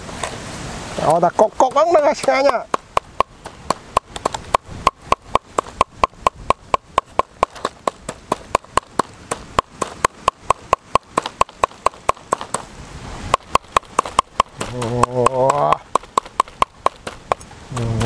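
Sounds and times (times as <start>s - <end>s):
knife chopping on wooden board: 1.7s - 12.7s, 13.3s - 18.0s.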